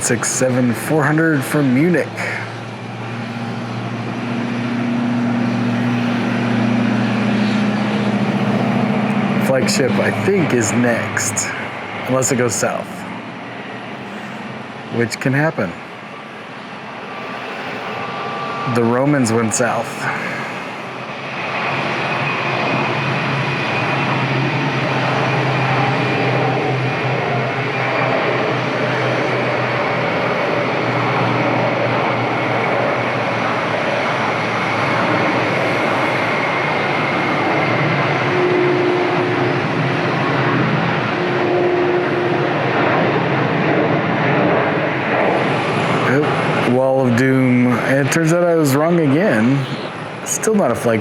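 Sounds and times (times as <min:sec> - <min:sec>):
jet airliner engines roaring: 0:00.0 - 0:51.0.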